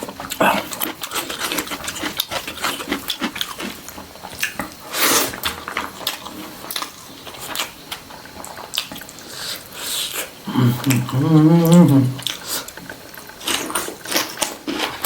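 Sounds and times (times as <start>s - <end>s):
wet chewing and lip-smacking: 0.0s - 15.0s.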